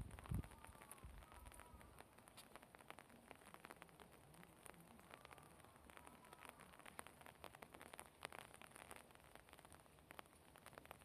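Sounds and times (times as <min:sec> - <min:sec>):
soft ticks: 0:00.2 - 0:10.9.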